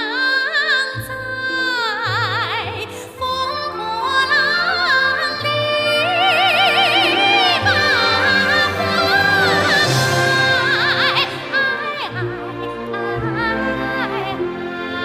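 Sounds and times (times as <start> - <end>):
woman singing operatically: 0.0 - 15.0
instrumental accompaniment: 0.9 - 15.0.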